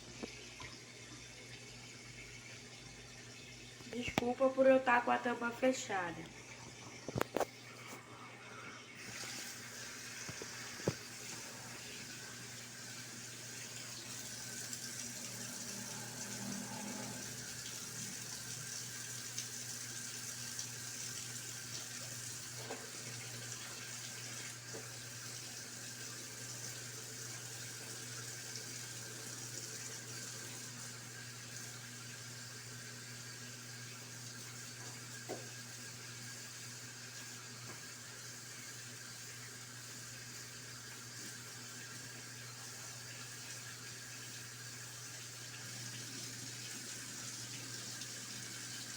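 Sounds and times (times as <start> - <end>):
washing machine water rushing: 0.0 - 48.9.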